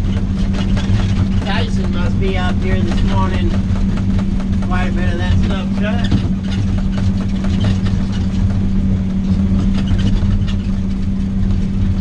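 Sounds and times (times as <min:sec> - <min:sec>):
rattles and knocks from ride: 0:00.0 - 0:12.0
vehicle engine humming: 0:00.0 - 0:12.0.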